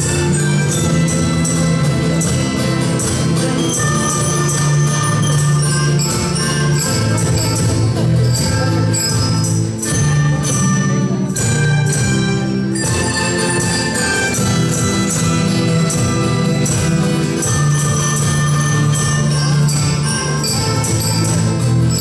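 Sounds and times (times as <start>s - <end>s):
low bass line: 0.0s - 22.0s
panpipe ensemble playing: 0.0s - 22.0s.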